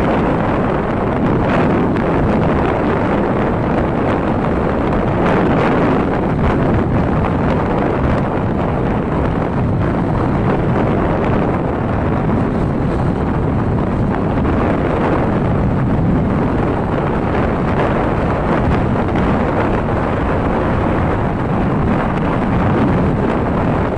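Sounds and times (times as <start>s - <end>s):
motorbike running: 0.0s - 23.9s
wind buffeting microphone: 0.0s - 23.9s.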